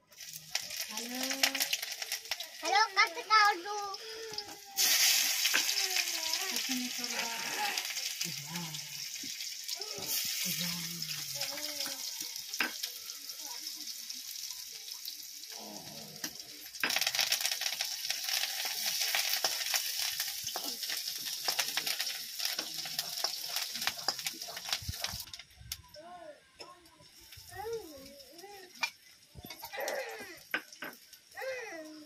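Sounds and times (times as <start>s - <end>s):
vegetables sizzling in oil: 0.0s - 25.9s, 27.0s - 32.0s.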